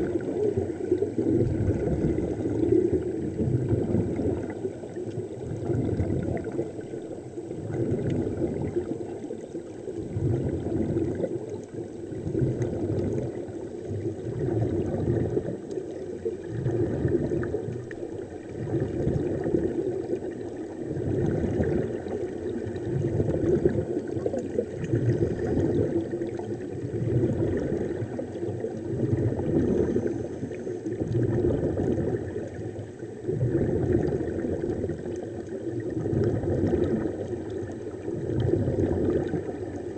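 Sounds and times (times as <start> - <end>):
muffled underwater rushing and bubbling: 0.0 - 39.9.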